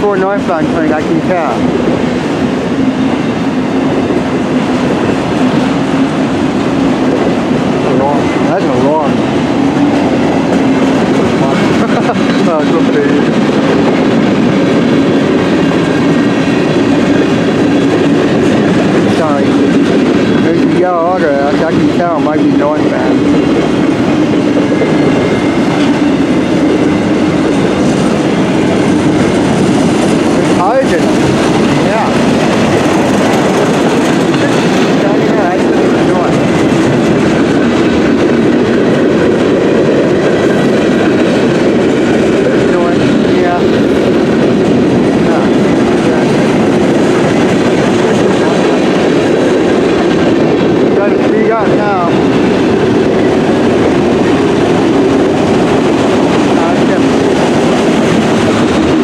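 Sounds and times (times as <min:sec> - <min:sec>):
freight train wheels rumbling: 0:00.0 - 0:59.0
train clickety-clack: 0:00.0 - 0:59.0.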